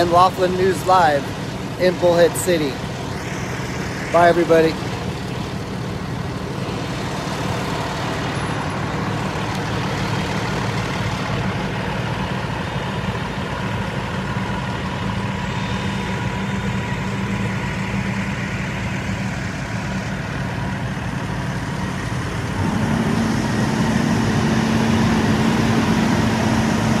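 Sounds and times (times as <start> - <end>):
diesel engine idling drone: 0.0 - 27.0.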